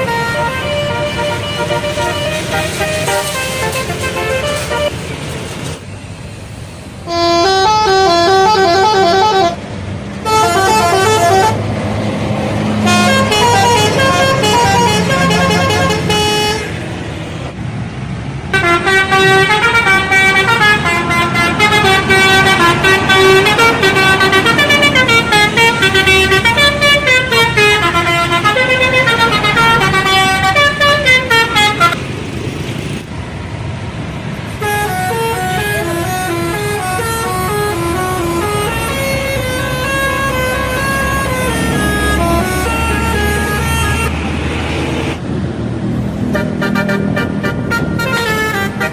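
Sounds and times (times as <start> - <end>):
bus air horn playing melodic tunes: 0.0 - 5.2, 7.0 - 11.8, 12.8 - 16.8, 18.5 - 32.0, 34.6 - 44.2, 46.2 - 48.9.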